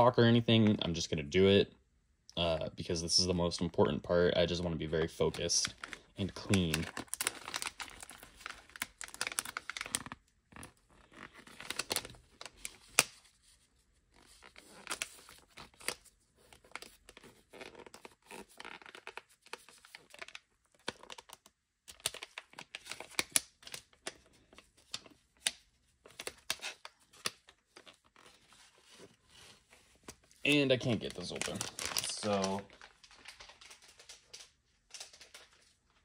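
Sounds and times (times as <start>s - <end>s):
plastic packaging crinkling: 4.4s - 36.0s.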